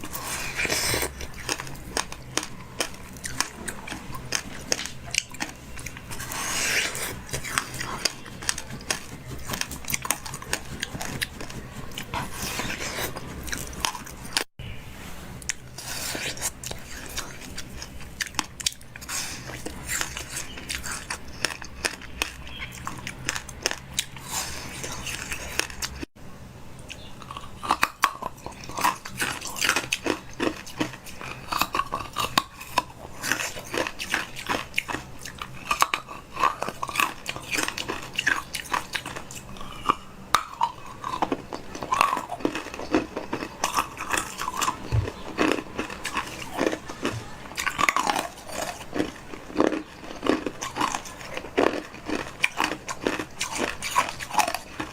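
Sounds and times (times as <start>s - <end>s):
person chewing crunchy food: 0.0s - 14.6s, 15.4s - 26.2s, 26.8s - 54.9s.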